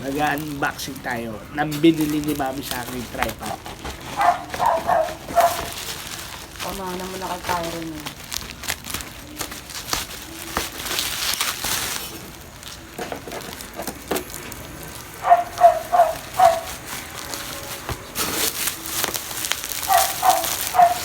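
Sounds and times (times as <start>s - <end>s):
packaging rustling: 0.0s - 21.0s
plastic and cardboard crackling: 0.0s - 21.0s.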